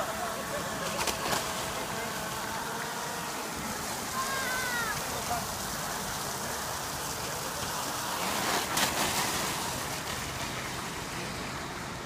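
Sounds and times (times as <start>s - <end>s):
water hissing over plastic slide: 0.0s - 12.0s.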